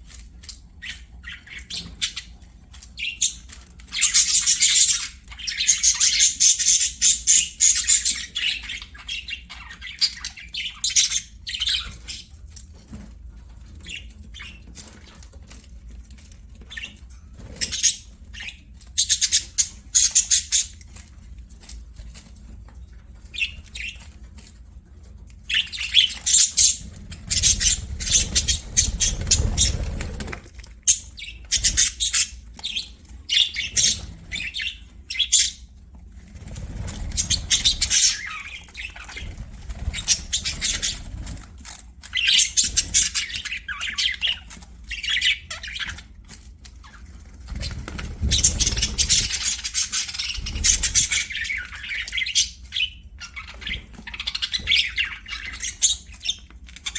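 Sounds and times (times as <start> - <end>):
budgerigars chirping and warbling: 0.1 - 56.9.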